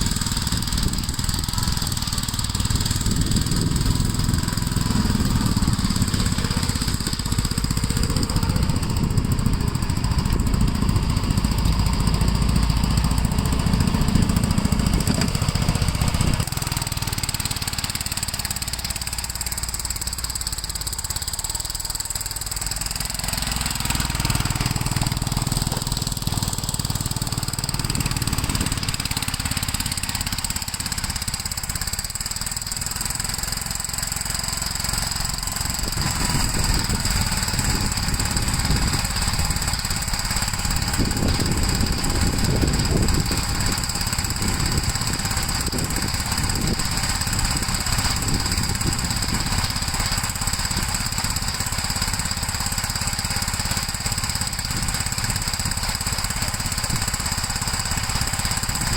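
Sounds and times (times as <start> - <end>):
walk-behind tractor engine running: 0.0 - 58.9.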